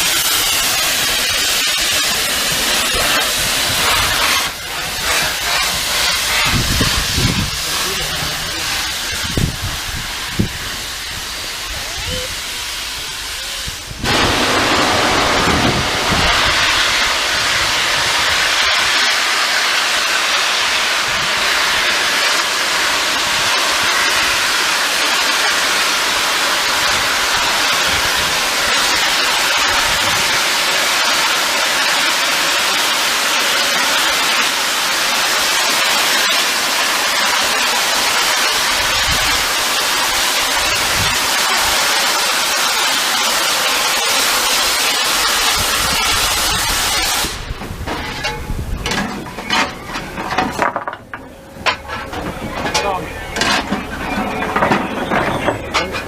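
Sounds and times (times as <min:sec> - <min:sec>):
steam locomotive venting steam: 0:00.0 - 0:56.0.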